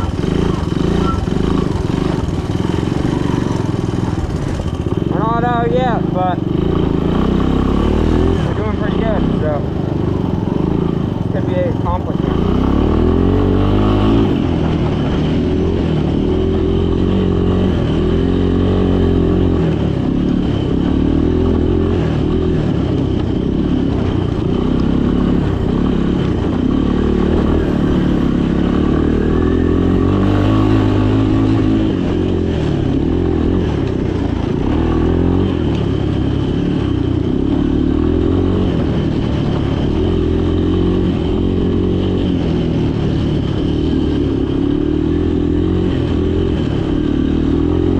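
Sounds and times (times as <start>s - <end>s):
atv engine running under load: 0.0s - 47.9s.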